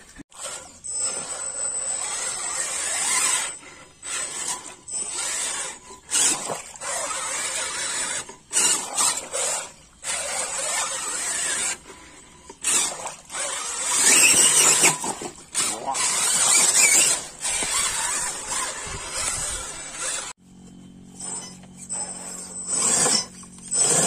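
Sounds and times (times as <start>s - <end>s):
electric motor whining: 0.3s - 24.0s.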